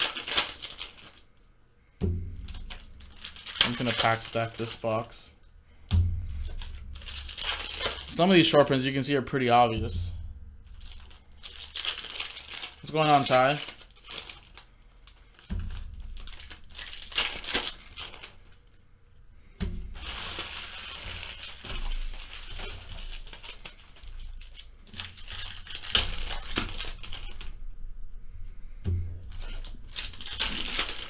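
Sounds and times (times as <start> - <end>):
foil wrappers crinkling and tearing: 0.0 - 1.4, 2.3 - 5.3, 6.4 - 18.8, 19.6 - 27.6, 29.2 - 31.0.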